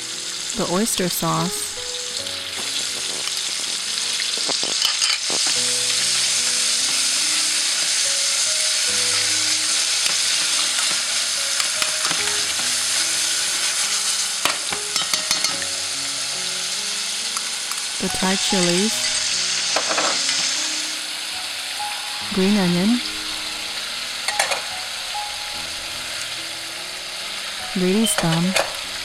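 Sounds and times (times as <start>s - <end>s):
food sizzling in hot oil: 0.0s - 22.3s, 23.0s - 29.0s.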